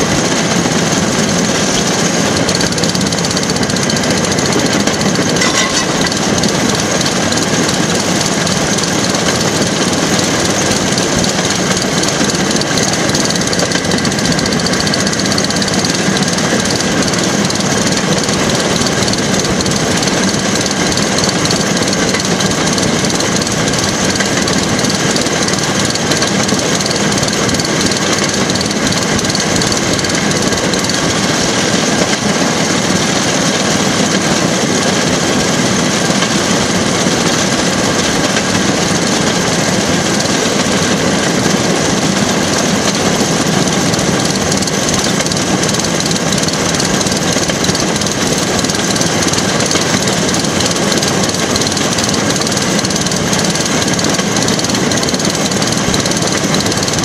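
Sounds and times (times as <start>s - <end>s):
rail car engine running: 0.0s - 57.0s
steel wheels rolling on rails: 0.0s - 57.0s.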